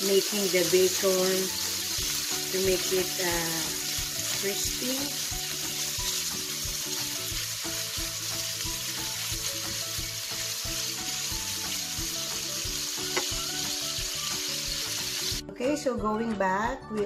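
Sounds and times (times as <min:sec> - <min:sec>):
bacon sizzling in a frying pan: 0:00.0 - 0:15.4.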